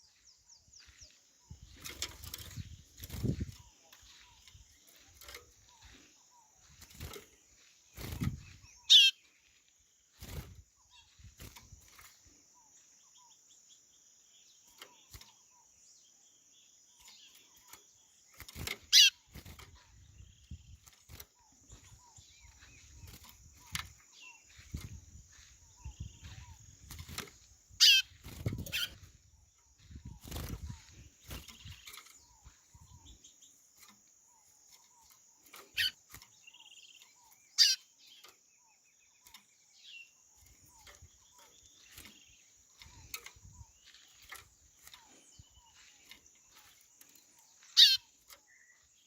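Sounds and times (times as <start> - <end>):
bird trilling calls: 0.0 - 13.5, 16.9 - 49.0.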